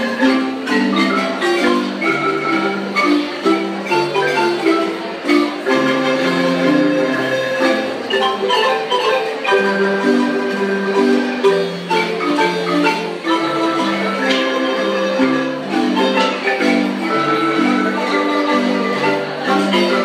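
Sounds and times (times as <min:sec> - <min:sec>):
marimba ensemble music: 0:00.0 - 0:20.0.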